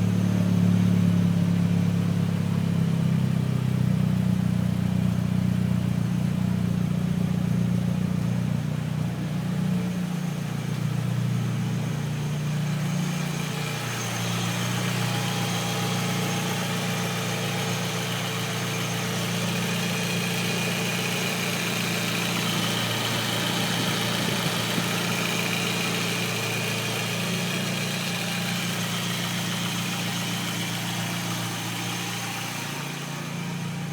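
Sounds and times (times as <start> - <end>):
car engine idling roughly: 0.0 - 33.9.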